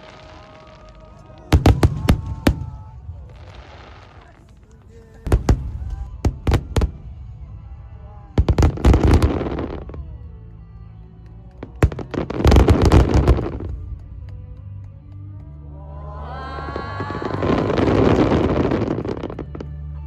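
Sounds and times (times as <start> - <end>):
fireworks banging and crackling: 0.0 - 10.5, 11.2 - 15.2, 16.8 - 19.7
faint music: 0.0 - 20.0.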